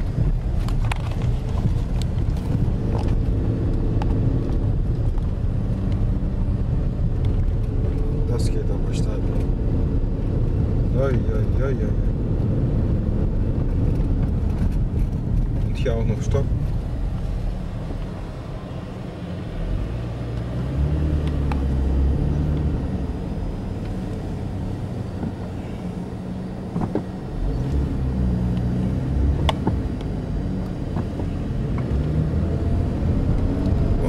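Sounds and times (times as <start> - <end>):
car engine: 0.0 - 34.0
road noise inside car: 0.0 - 34.0.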